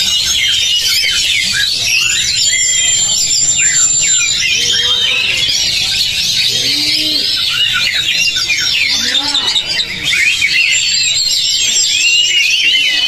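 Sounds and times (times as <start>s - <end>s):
chorus of songbirds whistling: 0.0s - 13.0s.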